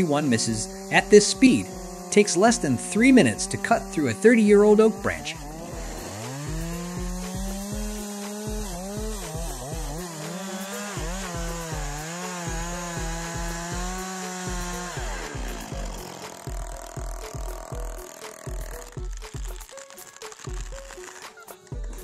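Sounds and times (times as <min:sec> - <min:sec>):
background music with low beat: 0:00.0 - 0:22.0
chainsaw cutting wood: 0:00.0 - 0:22.0.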